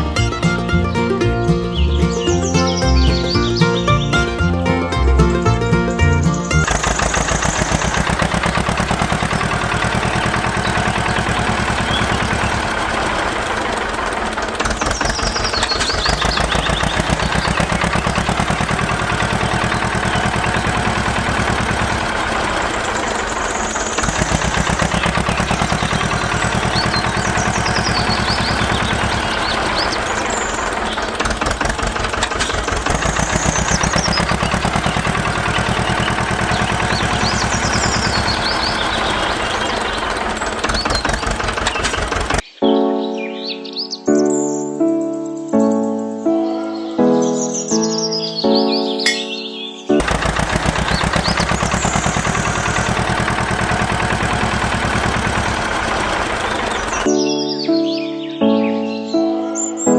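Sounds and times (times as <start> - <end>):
machine engine knocking: 0.0 - 30.1, 30.8 - 42.4, 50.0 - 57.1.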